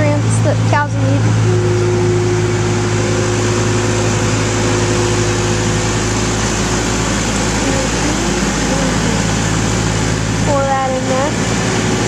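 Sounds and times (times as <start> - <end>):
diesel engine running: 0.0 - 12.0
steady whine: 0.0 - 12.0.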